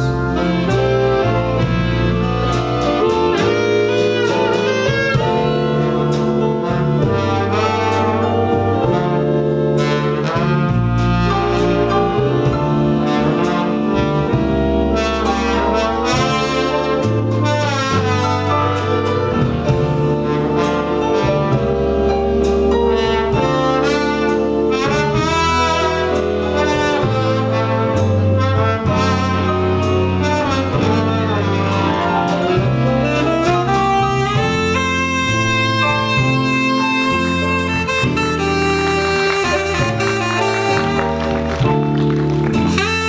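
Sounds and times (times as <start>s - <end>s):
keyboard chords: 0.0s - 43.0s
low bass notes: 0.0s - 43.0s
saxophone melody: 0.0s - 43.0s.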